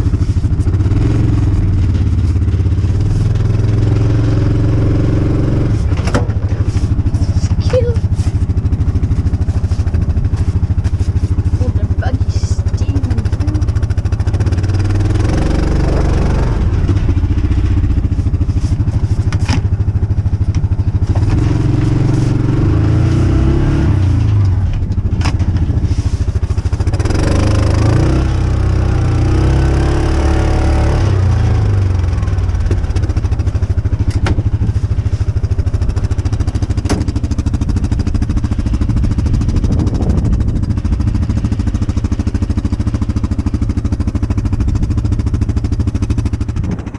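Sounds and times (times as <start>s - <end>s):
small engine revving: 0.0s - 19.8s, 20.4s - 43.7s.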